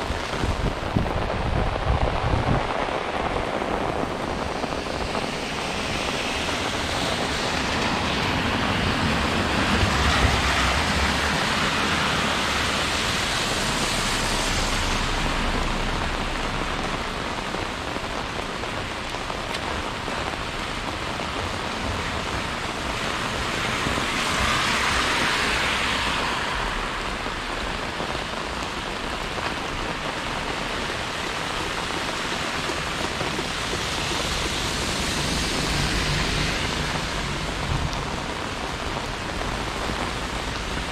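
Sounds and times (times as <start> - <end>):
rain on wet streets: 0.0 - 40.9.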